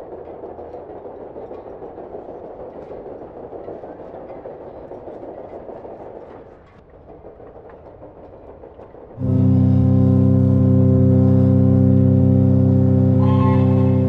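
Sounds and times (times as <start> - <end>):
steam engine running: 0.0 - 14.0.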